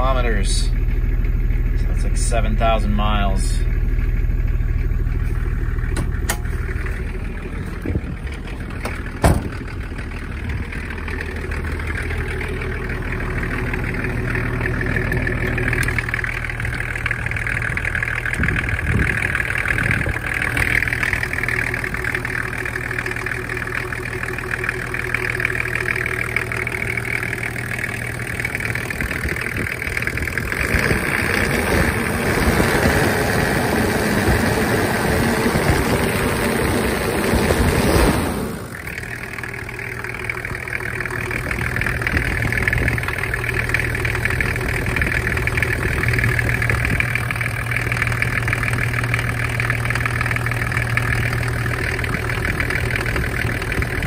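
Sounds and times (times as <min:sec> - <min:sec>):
diesel engine idling: 0:00.0 - 0:54.0
engine knock: 0:00.0 - 0:54.0.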